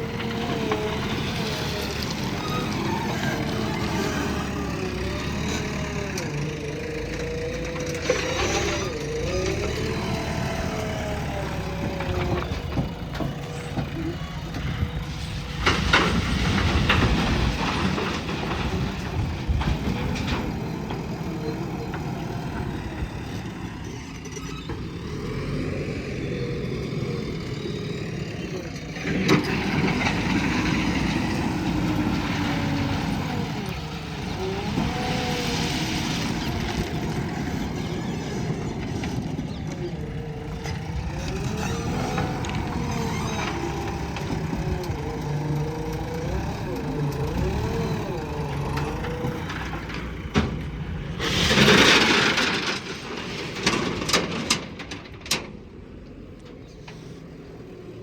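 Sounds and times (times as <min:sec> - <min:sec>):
diesel engine working: 0:00.0 - 0:58.0.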